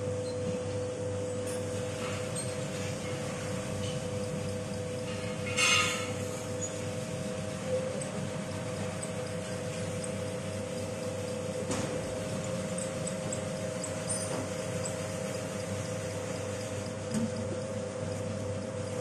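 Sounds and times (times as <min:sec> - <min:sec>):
machine motor hum and whine: 0:00.0 - 0:19.0.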